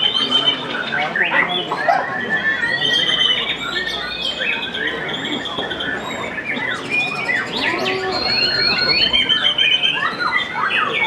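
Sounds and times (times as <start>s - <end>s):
bird singing whistles and trills: 0.0s - 11.0s.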